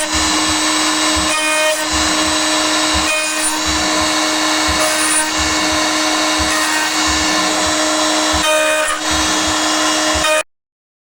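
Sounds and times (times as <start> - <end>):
soft low pulses: 0.0 - 10.2
router milling steel whine: 0.0 - 10.4.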